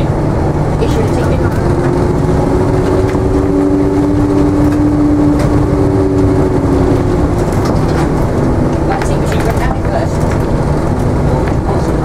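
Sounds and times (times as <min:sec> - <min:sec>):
bus engine running: 0:00.0 - 0:12.0
steady humming tone: 0:00.0 - 0:12.0.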